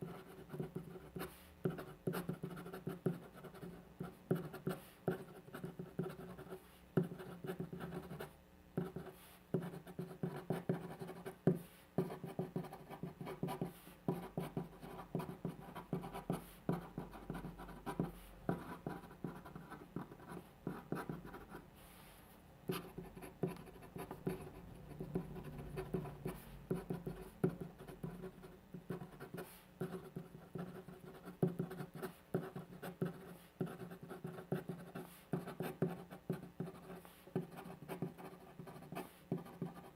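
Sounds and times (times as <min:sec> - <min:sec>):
pen scratching on paper: 0:00.0 - 0:21.6, 0:22.7 - 0:39.9.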